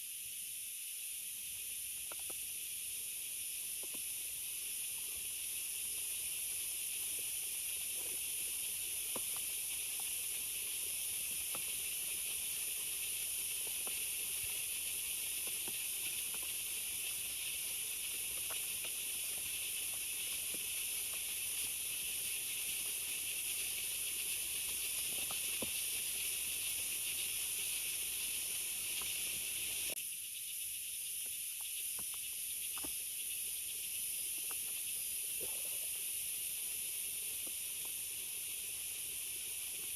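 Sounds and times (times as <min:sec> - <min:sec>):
small ticks: 0:01.9 - 0:02.8, 0:03.5 - 0:04.3, 0:04.9 - 0:39.9.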